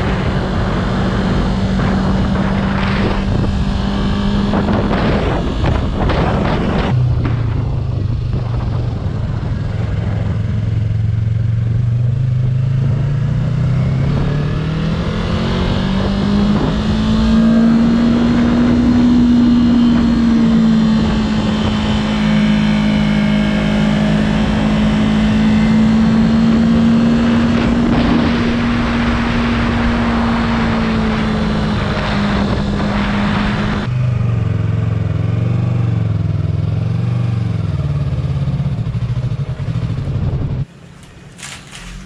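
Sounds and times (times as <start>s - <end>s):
wind rushing over microphone: 0.0s - 34.2s, 38.9s - 40.8s
motorcycle engine running: 0.0s - 42.0s.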